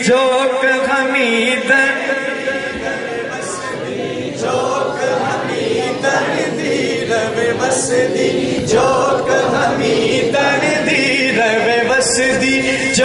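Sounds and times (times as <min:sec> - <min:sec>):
men singing unaccompanied: 0:00.5 - 0:13.0.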